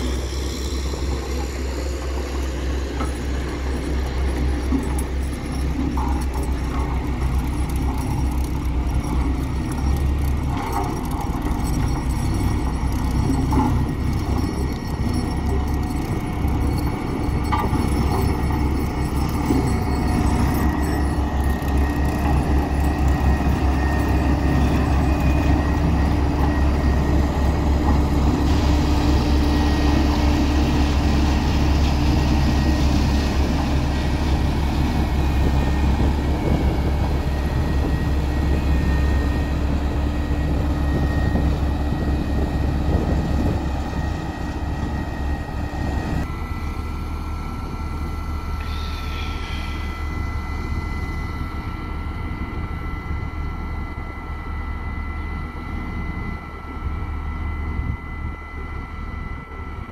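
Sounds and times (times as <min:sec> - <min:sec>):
constant machinery hum: 0:00.0 - 0:59.9
diesel engine rumble: 0:00.0 - 0:59.9.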